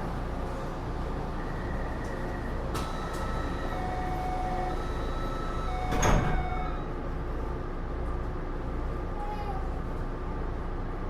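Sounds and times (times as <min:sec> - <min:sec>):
subway car hum: 0:00.0 - 0:11.0
subway doors closing with a thud: 0:00.0 - 0:11.0.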